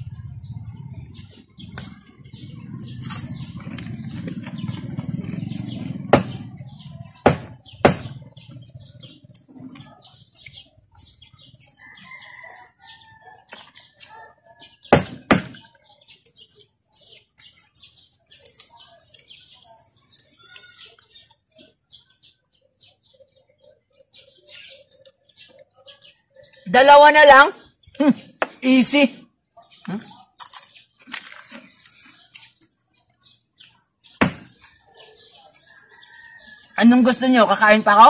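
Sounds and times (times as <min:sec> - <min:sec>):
birds chirping faintly: 0:00.0 - 0:38.0.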